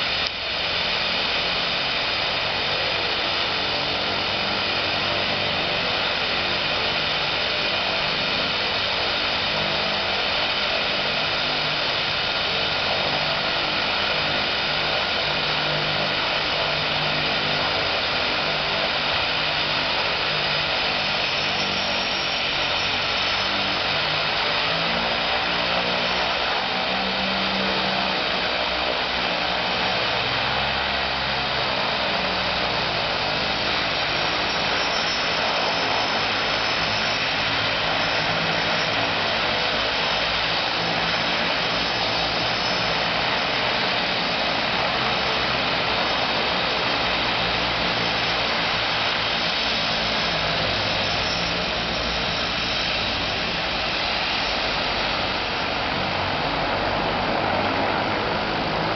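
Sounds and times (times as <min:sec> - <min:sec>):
turboprop engines running: 0:00.0 - 0:58.9.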